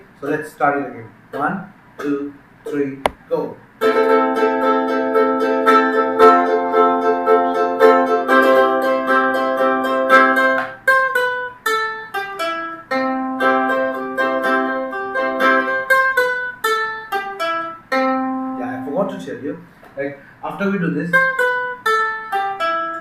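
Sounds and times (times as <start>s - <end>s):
ukulele strumming and plucking: 2.0s - 19.4s, 21.0s - 23.0s.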